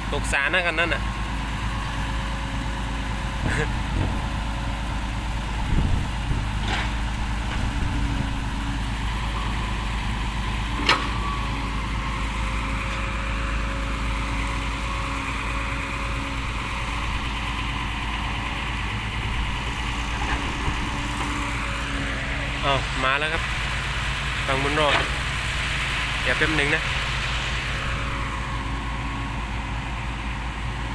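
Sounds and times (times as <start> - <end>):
diesel engines idling: 0.0 - 30.9.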